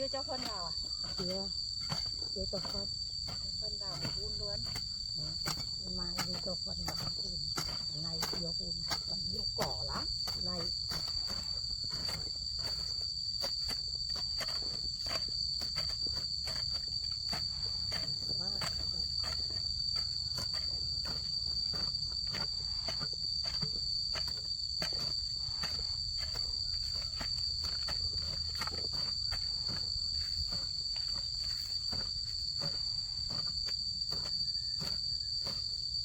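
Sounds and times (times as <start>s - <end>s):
hand weeding knocks and scrapes: 0.0s - 36.0s
insects droning: 0.0s - 36.0s.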